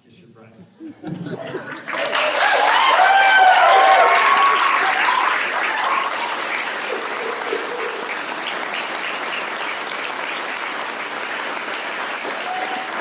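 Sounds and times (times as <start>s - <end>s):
crowd applauding: 1.4s - 13.0s.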